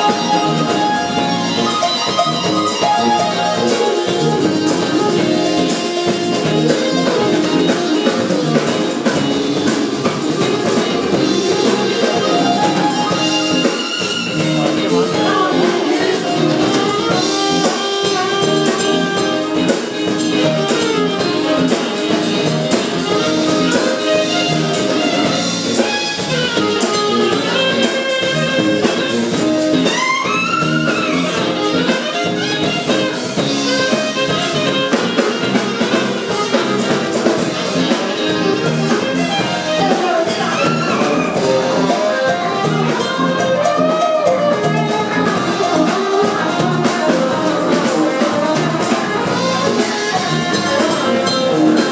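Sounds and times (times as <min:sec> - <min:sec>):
drum kit: 0:00.0 - 0:51.9
saxophone: 0:00.0 - 0:51.9
trumpet: 0:00.0 - 0:51.9.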